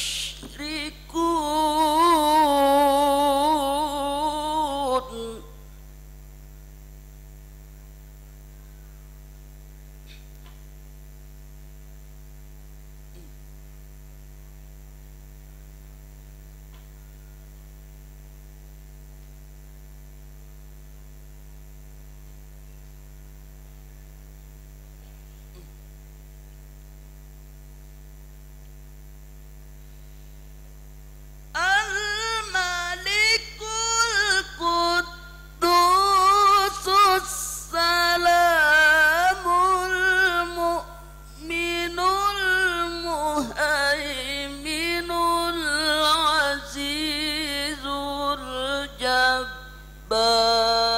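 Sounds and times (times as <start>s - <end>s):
electrical mains hum: 0.0s - 50.9s.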